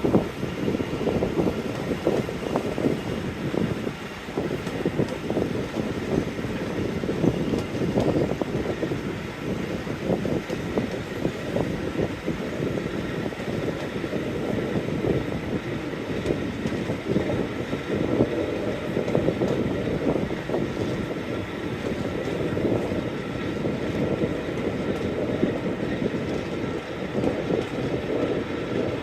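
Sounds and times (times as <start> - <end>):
diesel train running: 0.0 - 29.0.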